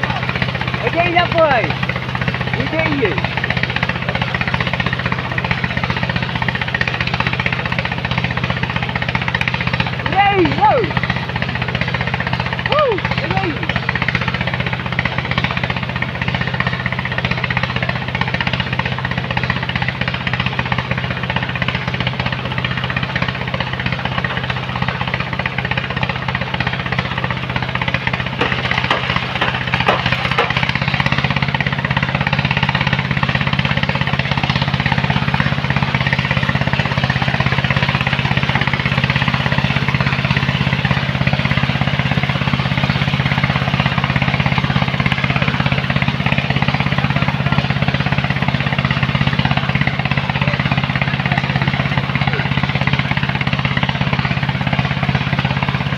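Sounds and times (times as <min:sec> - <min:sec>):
loading machine diesel engine rattling: 0:00.0 - 0:55.9.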